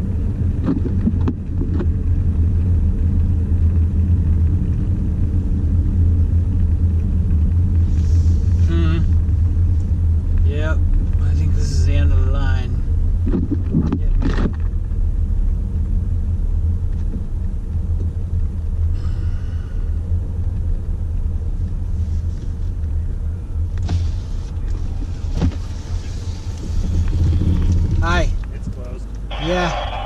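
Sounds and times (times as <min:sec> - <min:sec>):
vehicle engine low rumble: 0:00.0 - 0:30.0.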